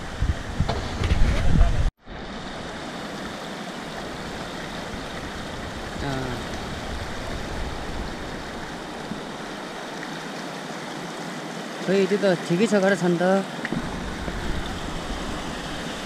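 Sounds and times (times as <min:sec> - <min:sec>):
stream rushing over rocks: 0:02.0 - 0:16.0.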